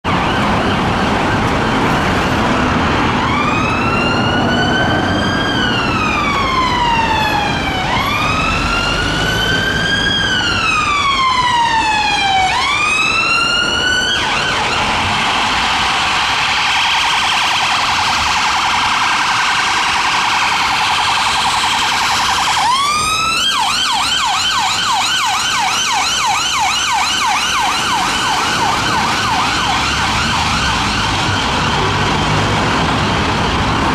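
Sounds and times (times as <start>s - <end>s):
electronic siren wailing: 0.0s - 33.8s
traffic noise: 0.0s - 33.9s.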